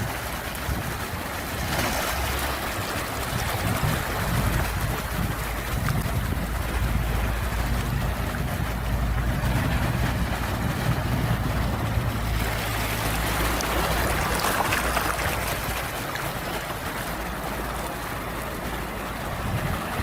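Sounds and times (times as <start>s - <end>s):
low rumble: 0.0s - 20.0s
sea waves washing on shore: 0.0s - 20.0s
wave breaking: 0.0s - 20.0s.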